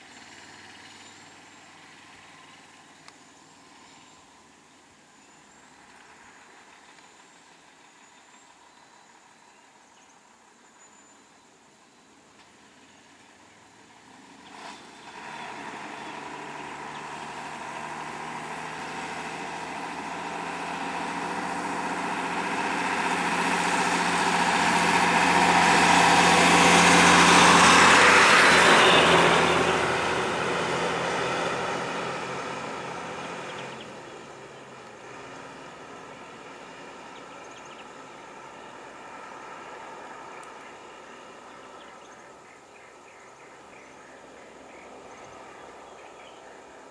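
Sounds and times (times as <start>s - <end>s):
bus diesel engine passing: 0.0s - 4.6s, 5.3s - 9.3s, 12.7s - 46.9s.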